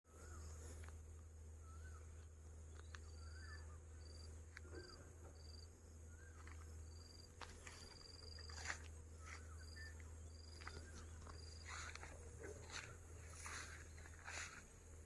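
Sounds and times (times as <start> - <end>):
soft low bird chirps: 0.1 - 14.8.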